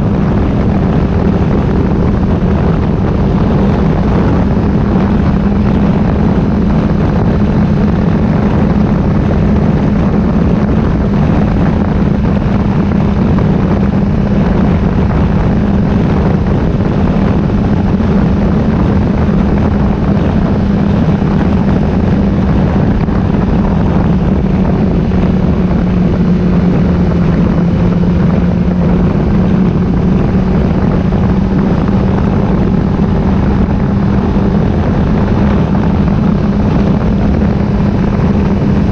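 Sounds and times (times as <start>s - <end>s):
motorcycle engine running: 0.0s - 38.9s
rush of wind noise: 0.0s - 38.9s.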